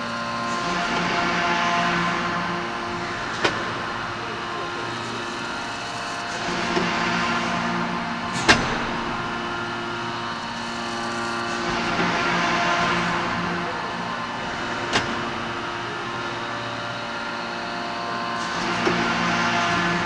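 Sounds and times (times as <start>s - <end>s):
hydraulic press humming: 0.0s - 20.0s.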